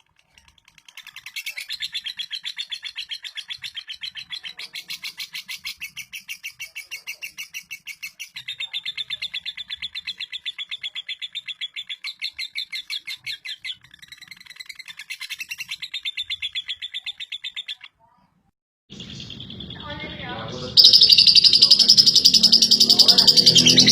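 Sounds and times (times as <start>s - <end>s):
bird chattering trill: 0.3s - 17.9s, 18.9s - 23.9s.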